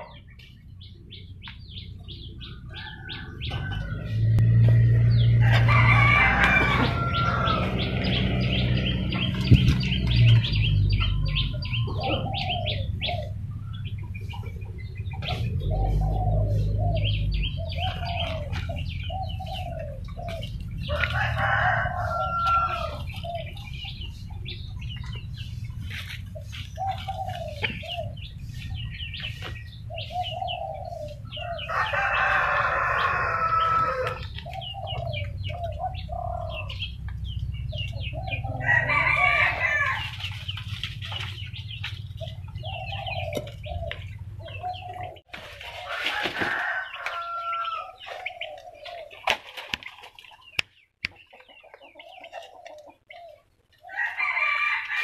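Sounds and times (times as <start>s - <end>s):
bird clucking calls: 0.0s - 55.0s.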